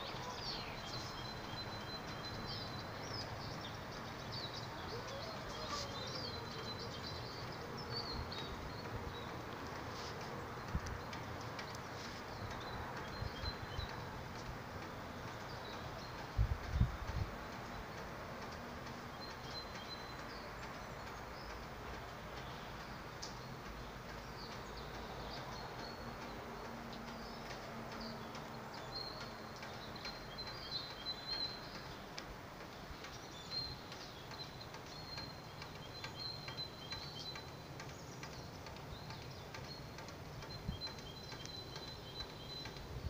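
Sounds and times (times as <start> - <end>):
songbirds chirping and trilling: 0.0 - 43.0.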